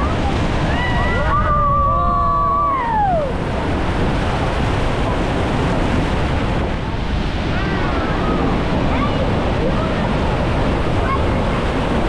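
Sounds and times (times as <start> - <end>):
water rushing: 0.0 - 12.0
wind buffeting microphone: 0.0 - 12.0.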